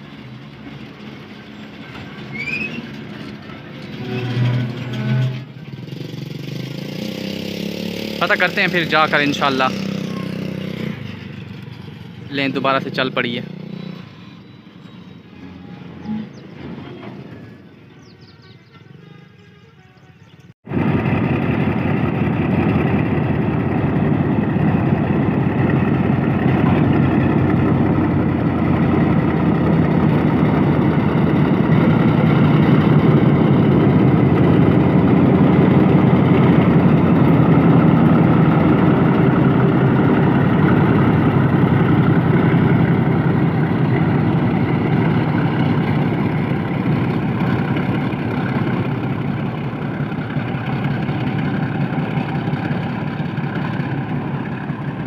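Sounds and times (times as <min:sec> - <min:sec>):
diesel locomotive engine running: 0:00.0 - 0:18.4, 0:20.6 - 0:55.0.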